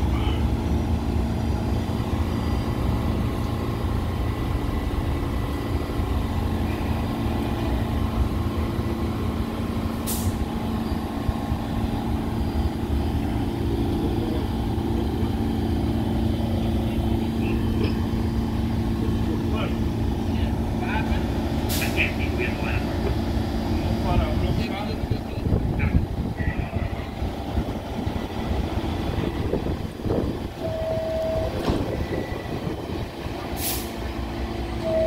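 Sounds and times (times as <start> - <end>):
subway train idling hum: 0.0 - 35.0.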